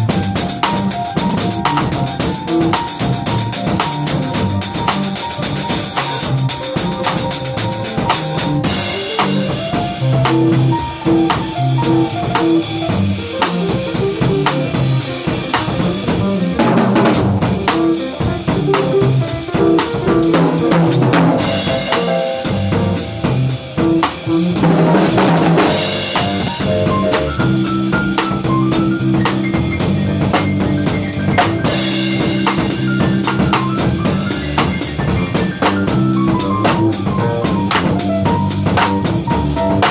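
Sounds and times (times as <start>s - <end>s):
bass line: 0.0s - 39.9s
drum kit groove: 0.0s - 39.9s.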